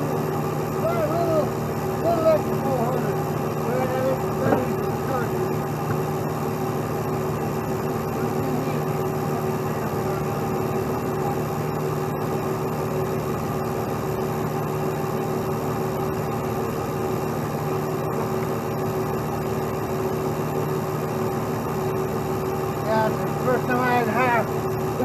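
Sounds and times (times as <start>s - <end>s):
diesel truck engine droning: 0.0s - 25.0s.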